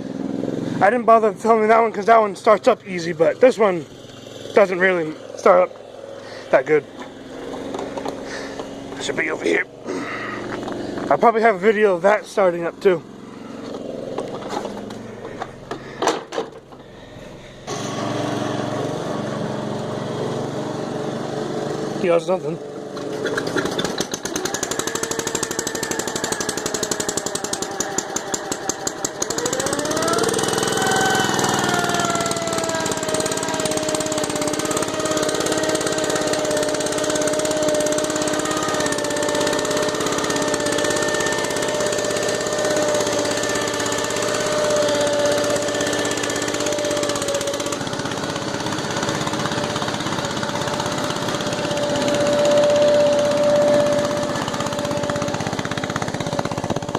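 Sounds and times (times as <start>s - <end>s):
tractor engine starting and running: 0.0s - 56.9s.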